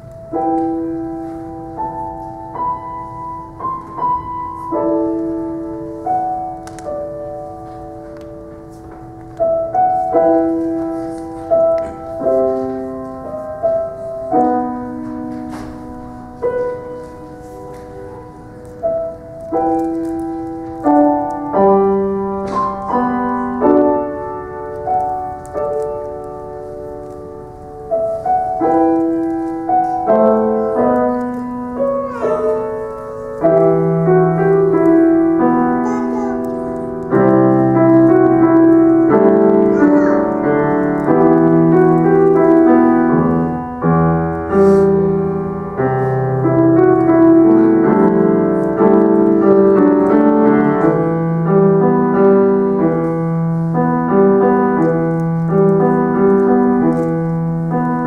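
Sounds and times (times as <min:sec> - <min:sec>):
solo piano playing christmas music: 0:00.0 - 0:58.0.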